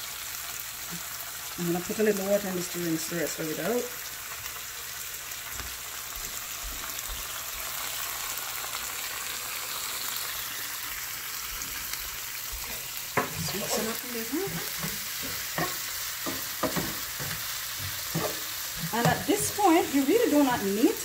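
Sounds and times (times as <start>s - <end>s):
vegetables sizzling in pan: 0.0s - 21.0s.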